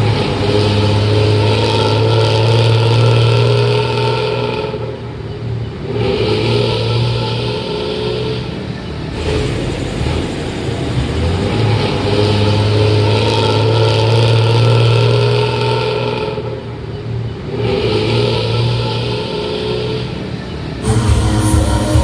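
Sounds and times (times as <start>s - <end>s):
diesel bus engines growling: 0.0s - 22.0s.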